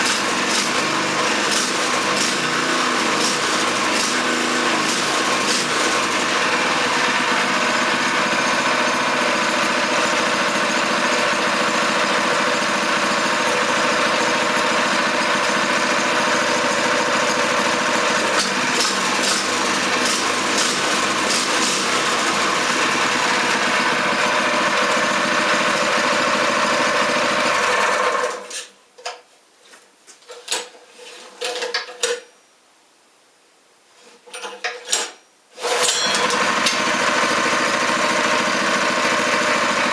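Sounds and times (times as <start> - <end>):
small engine running: 0.0 - 28.4, 35.6 - 39.9.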